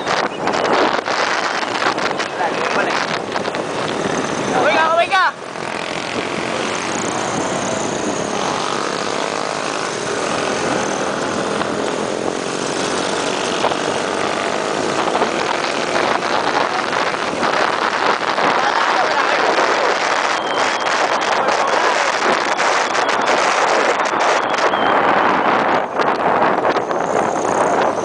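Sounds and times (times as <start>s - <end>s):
wind buffeting microphone: 0.0s - 28.0s
motorcycle engine running: 0.8s - 24.5s.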